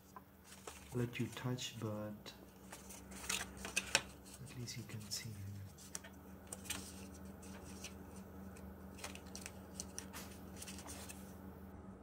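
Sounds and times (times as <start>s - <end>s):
steady low hum: 0.0s - 12.0s
card packaging crackling: 0.4s - 1.8s, 2.4s - 11.3s.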